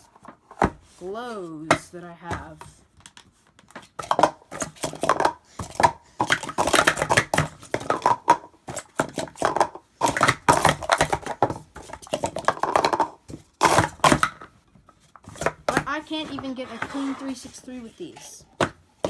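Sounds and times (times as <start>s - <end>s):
plastic cups clacking and sliding: 0.0s - 19.0s.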